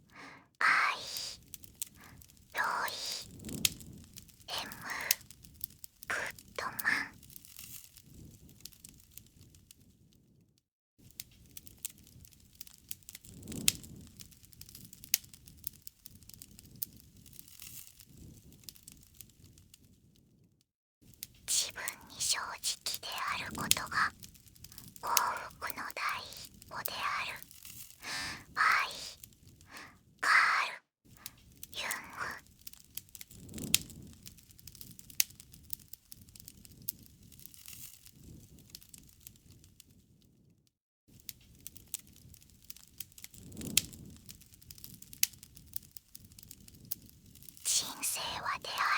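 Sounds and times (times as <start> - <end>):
campfire crackling and popping: 0.0 - 10.0, 11.0 - 20.0, 21.0 - 40.1, 41.1 - 48.9
low rumble of flame: 1.4 - 2.6, 3.2 - 22.1, 23.5 - 25.5, 26.3 - 26.7, 27.4 - 28.6, 29.2 - 30.2, 31.1 - 31.8, 32.4 - 47.7.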